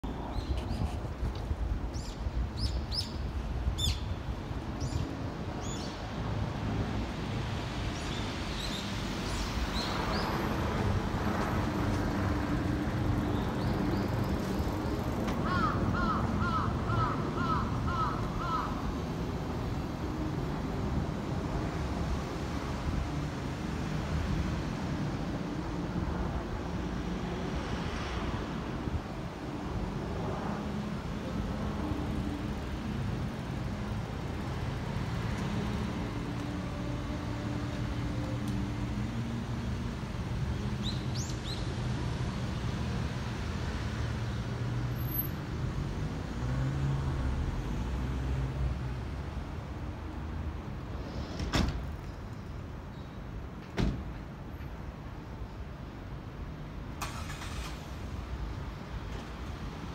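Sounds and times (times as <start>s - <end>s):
low rumble of city traffic: 0.0s - 59.9s.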